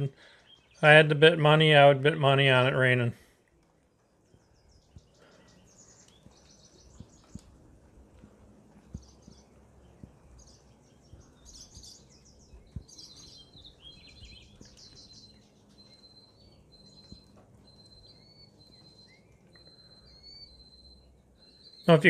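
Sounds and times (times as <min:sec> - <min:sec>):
shrill rapid bird calls: 0:00.0 - 0:02.8, 0:03.8 - 0:07.9, 0:08.8 - 0:22.0
low steady outdoor rumble: 0:00.0 - 0:22.0.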